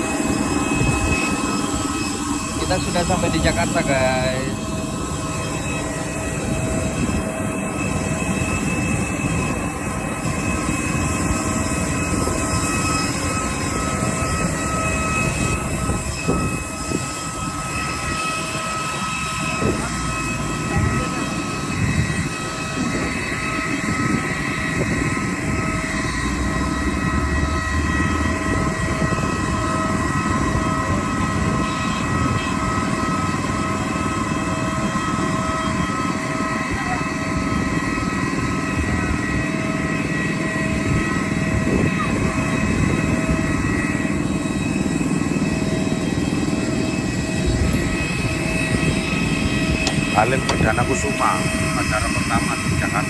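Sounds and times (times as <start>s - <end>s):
engine whine: 0.0s - 53.0s
jet engines roaring: 0.0s - 53.0s.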